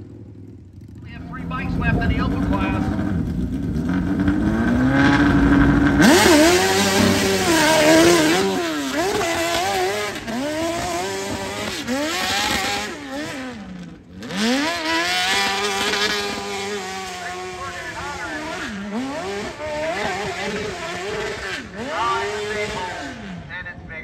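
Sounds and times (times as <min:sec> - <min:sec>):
motorcycle engine revving hard: 0:00.0 - 0:23.5.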